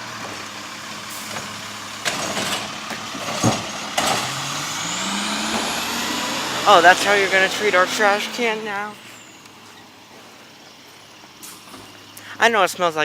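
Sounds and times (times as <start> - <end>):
garbage truck engine running: 0.0 - 13.0.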